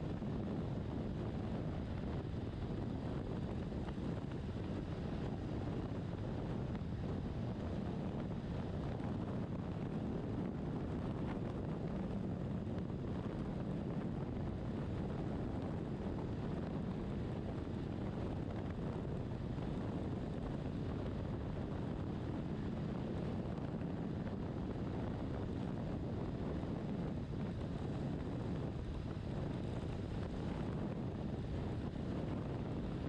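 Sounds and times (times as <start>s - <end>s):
motorcycle road noise: 0.0s - 33.0s
wind buffeting microphone: 0.0s - 33.0s
wind rush: 0.0s - 33.0s.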